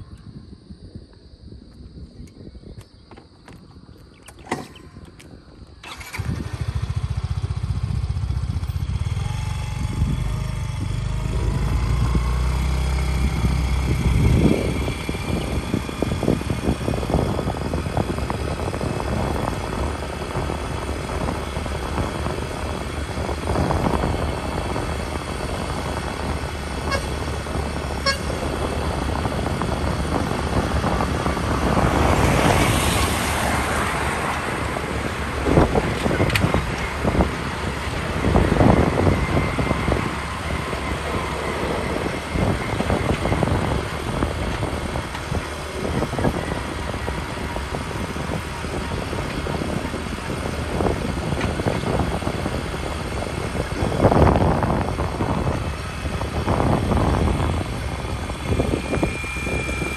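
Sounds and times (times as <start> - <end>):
highway road and wind noise: 0.0 - 59.9.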